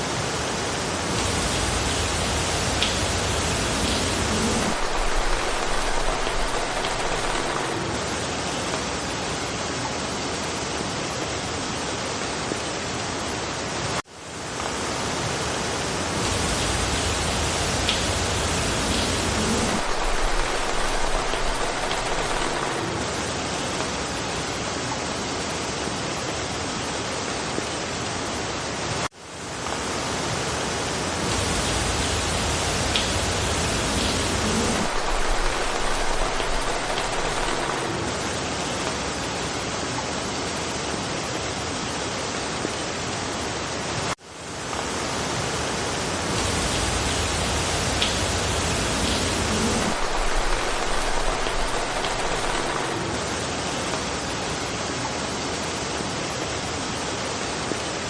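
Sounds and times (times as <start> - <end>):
rain falling through foliage: 0.0 - 58.0.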